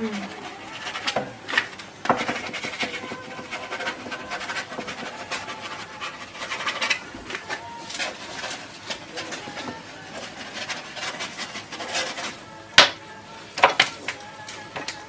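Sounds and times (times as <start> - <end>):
painting tool scratching canvas: 0.1 - 12.4.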